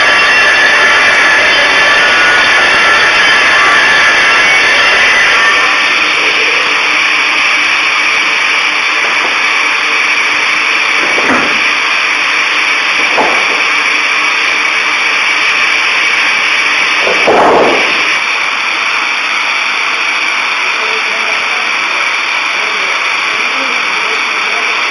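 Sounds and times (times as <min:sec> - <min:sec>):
circular saw machine running: 0:00.0 - 0:24.9.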